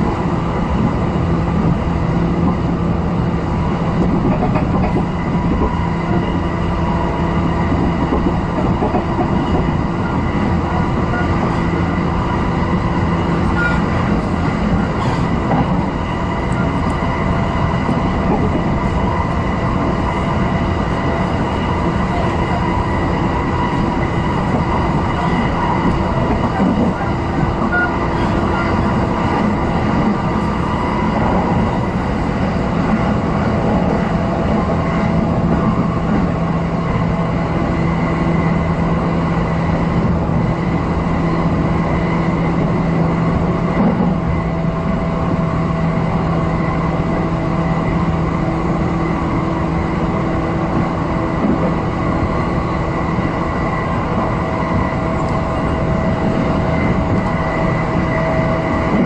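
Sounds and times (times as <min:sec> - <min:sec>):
humming tones from running gear: 0:00.0 - 0:59.0
train wheels rolling on rails: 0:00.0 - 0:59.0.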